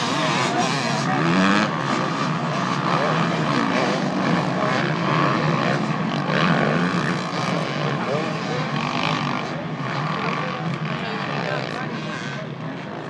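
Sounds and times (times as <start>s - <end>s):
off-road motorcycle engines revving: 0.0s - 13.0s.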